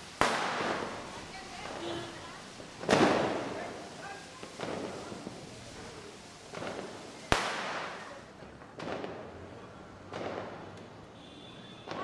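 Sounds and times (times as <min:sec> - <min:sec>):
firecracker bangs: 0:00.0 - 0:12.0.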